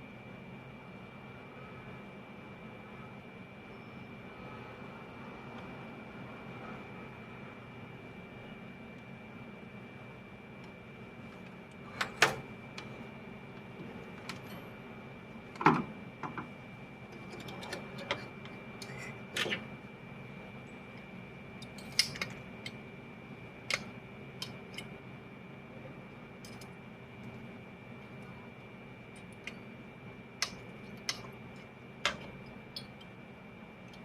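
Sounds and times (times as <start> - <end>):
faint hum: 0.0 - 34.0.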